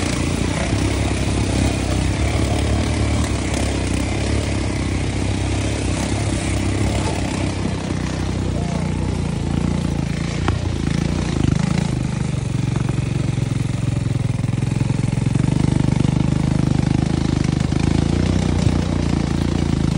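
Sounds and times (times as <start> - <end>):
atv engine running: 0.0 - 19.9.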